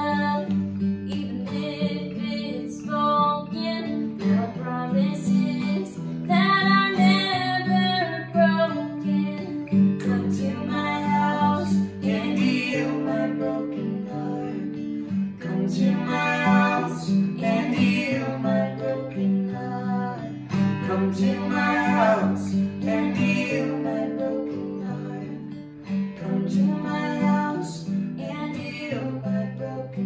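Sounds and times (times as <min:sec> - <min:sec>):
person singing: 0:00.0 - 0:14.8, 0:15.4 - 0:25.5, 0:26.2 - 0:30.0
acoustic guitar strumming: 0:00.0 - 0:30.0.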